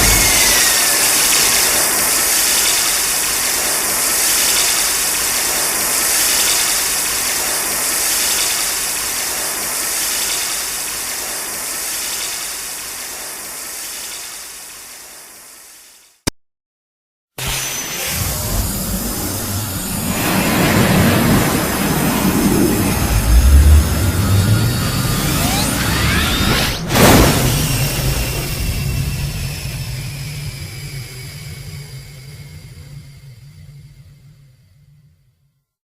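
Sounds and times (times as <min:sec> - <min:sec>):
mechanical rushing hiss: 0:00.0 - 0:16.2, 0:17.4 - 0:34.0.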